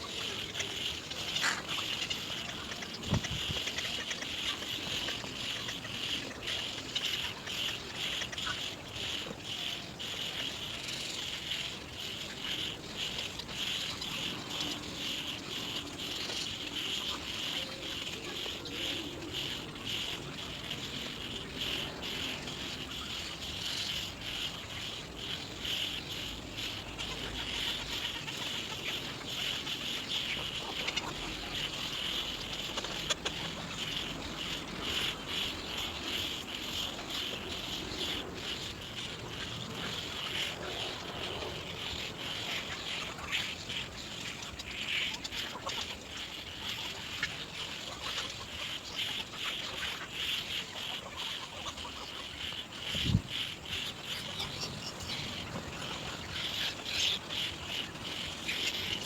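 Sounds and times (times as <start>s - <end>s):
birds chattering: 0.0s - 59.0s.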